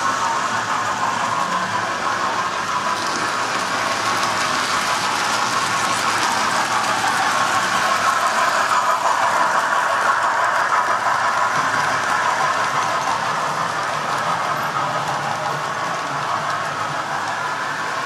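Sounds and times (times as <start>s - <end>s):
model trains whirring on track: 0.0s - 18.0s.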